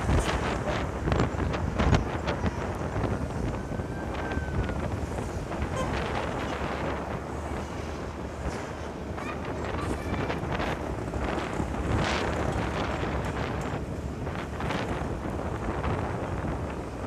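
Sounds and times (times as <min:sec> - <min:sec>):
road and traffic noise: 0:00.0 - 0:17.0
wind buffeting microphone: 0:00.0 - 0:17.0.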